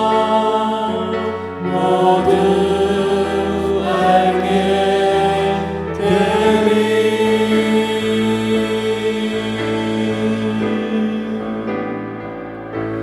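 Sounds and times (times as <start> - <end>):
church praise music chords: 0.0 - 13.0.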